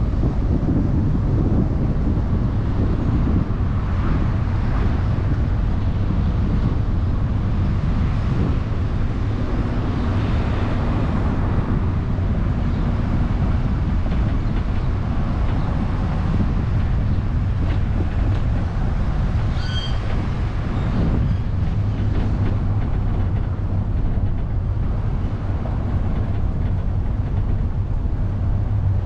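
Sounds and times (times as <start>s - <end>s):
car road and wind noise: 0.0s - 29.0s.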